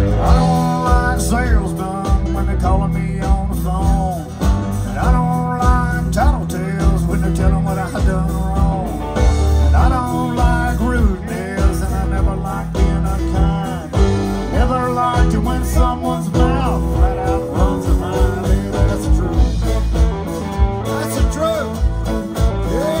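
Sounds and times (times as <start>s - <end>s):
live country band music: 0.0s - 23.0s.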